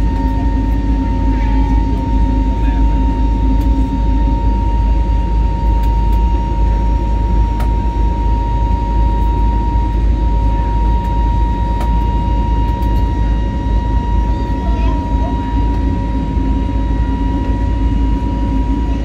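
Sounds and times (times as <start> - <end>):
airflow and engine rush: 0.0 - 19.0
steady high whine: 0.0 - 19.0.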